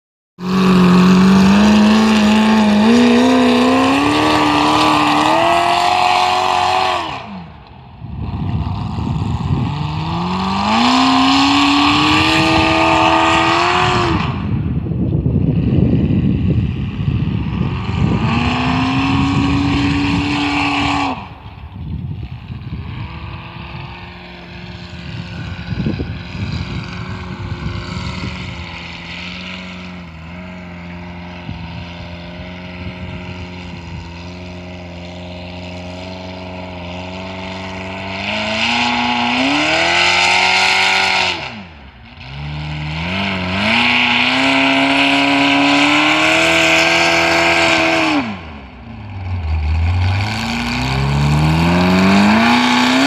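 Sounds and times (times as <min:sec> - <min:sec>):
tractor engine revving: 0:00.4 - 0:53.0.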